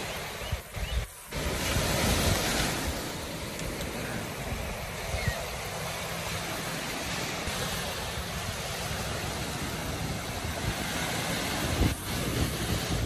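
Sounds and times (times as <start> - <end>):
sea surf breaking on beach: 0.0 - 13.0.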